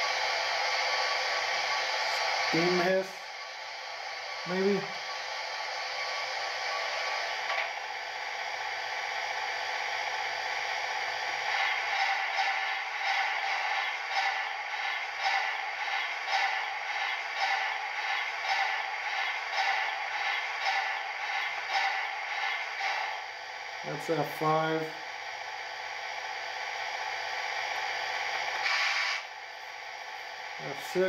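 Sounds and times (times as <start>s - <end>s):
steam locomotive hiss: 0.0s - 25.0s, 27.8s - 29.3s
regular mechanical chuffing beat: 0.0s - 31.0s.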